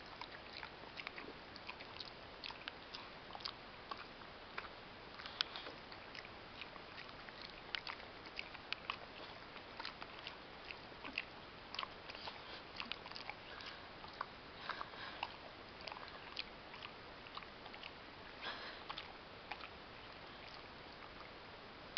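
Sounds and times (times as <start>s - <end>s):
dog chewing and smacking: 0.0s - 21.4s.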